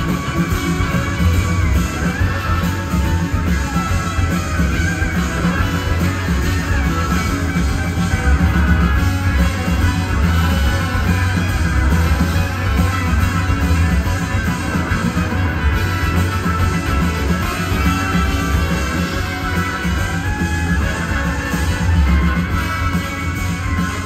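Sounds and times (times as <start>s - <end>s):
electric guitars: 0.0s - 24.0s
live band playing: 0.0s - 24.0s
steady bass: 0.0s - 24.0s.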